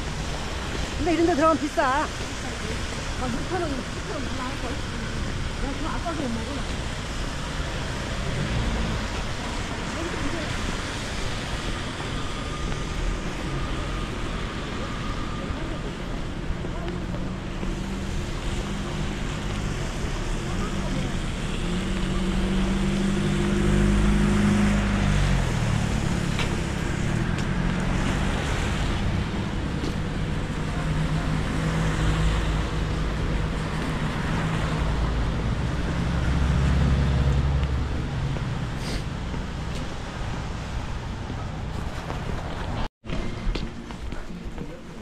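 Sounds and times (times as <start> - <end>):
vehicle engine and road hum: 0.0 - 45.0.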